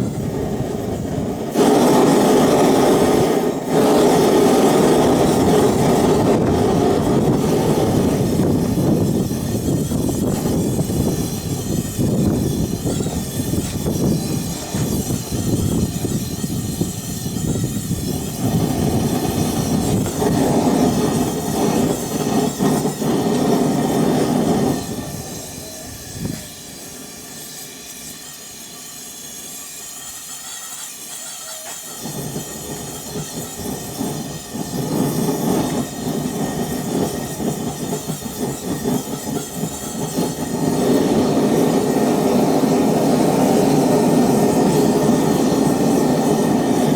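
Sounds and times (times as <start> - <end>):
gas forge burner rushing: 0.0 - 46.9.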